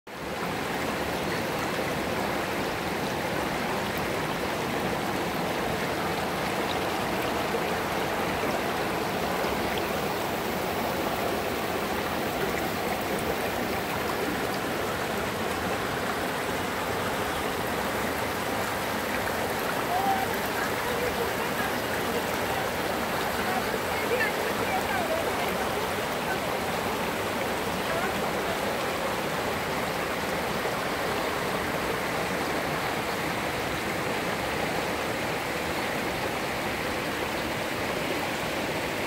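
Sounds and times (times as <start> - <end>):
creek water rushing over stones: 0.1 - 39.0.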